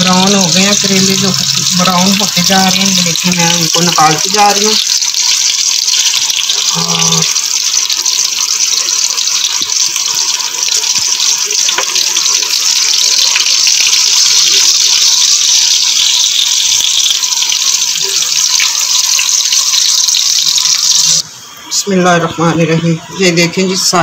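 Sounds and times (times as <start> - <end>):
oil sizzling in a pan: 0.0 - 21.8.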